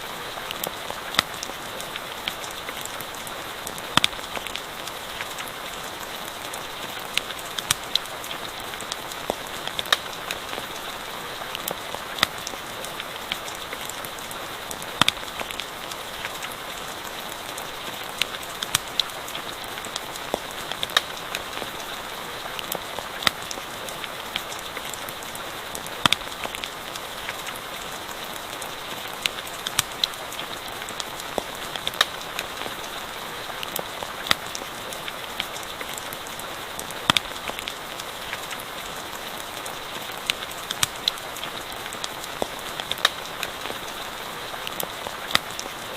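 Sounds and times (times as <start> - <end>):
steady rain falling: 0.0 - 45.9
campfire crackling and popping: 0.2 - 45.9.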